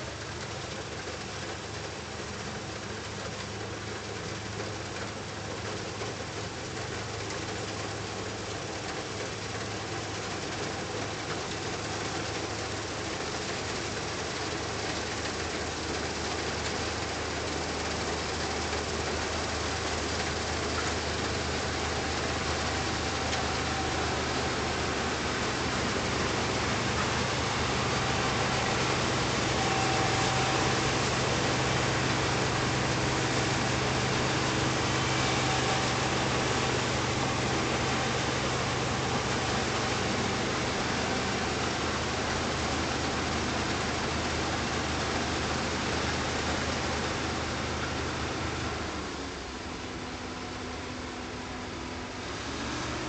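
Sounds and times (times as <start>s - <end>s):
combine harvester threshing: 0.0s - 49.6s.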